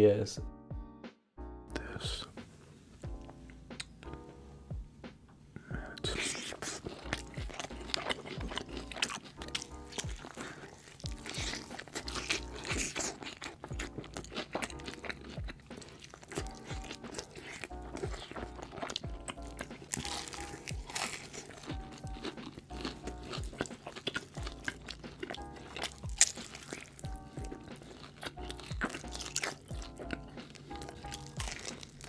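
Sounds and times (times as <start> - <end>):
soft background music: 0.0 - 32.0
crunchy chewing of fried chicken: 5.6 - 32.0.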